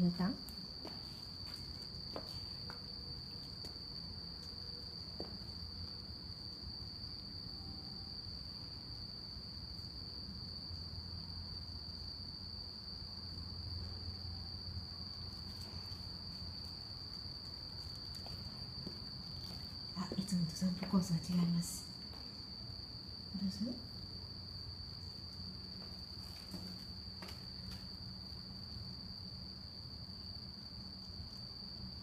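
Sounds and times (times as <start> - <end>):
low background hum: 0.0 - 32.0
night insects chorus: 0.0 - 32.0.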